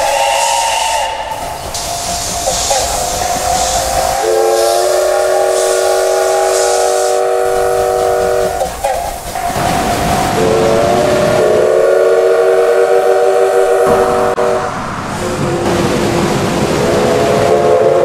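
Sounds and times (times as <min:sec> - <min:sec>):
steam whistle blowing: 0:00.0 - 0:15.8, 0:16.7 - 0:18.0
steam hissing: 0:00.0 - 0:18.0.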